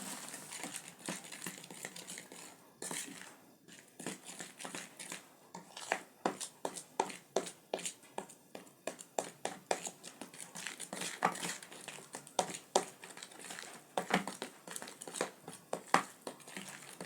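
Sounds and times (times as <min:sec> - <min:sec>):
utensil stirring batter in bowl: 0:00.0 - 0:17.0.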